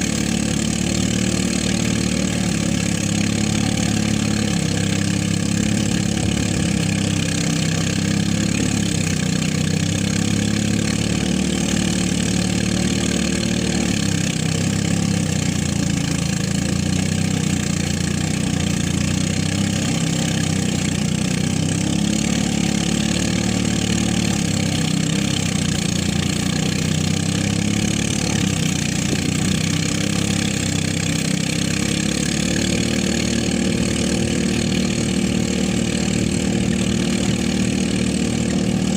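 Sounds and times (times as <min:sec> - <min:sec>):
threshing machine engine running: 0:00.0 - 0:38.9.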